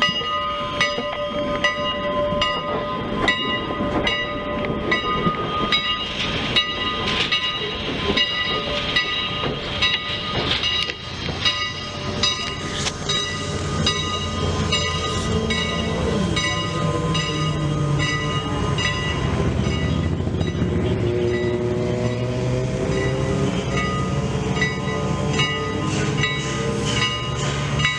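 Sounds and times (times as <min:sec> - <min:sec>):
regular ringing bell: 0:00.0 - 0:22.3, 0:22.9 - 0:27.9
steam train: 0:00.0 - 0:27.9.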